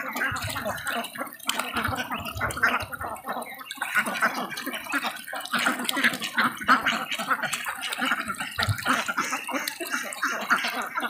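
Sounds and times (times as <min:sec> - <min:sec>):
ducks dabbling in shallow water: 0:00.0 - 0:11.0.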